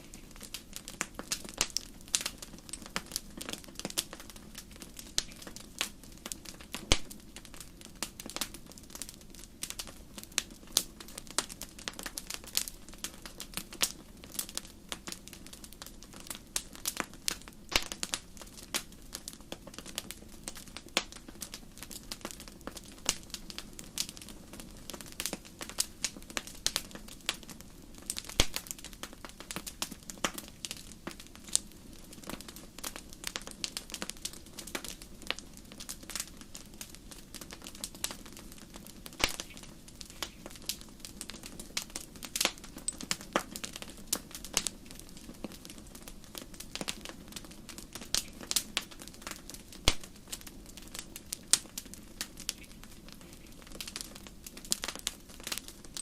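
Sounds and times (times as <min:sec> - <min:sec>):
campfire crackling and popping: 0:00.0 - 0:56.0
low rumble of burning: 0:00.0 - 0:56.0.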